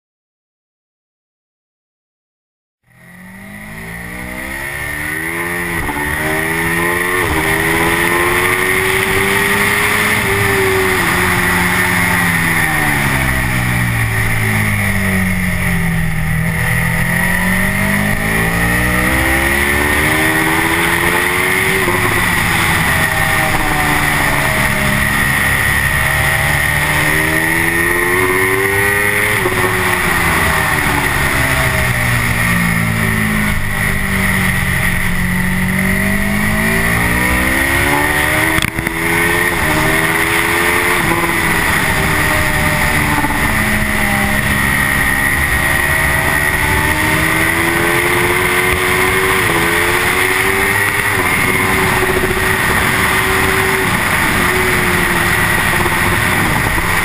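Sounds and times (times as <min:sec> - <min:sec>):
motorcycle engine revving: 0:02.8 - 0:57.0
wind noise: 0:04.3 - 0:57.0.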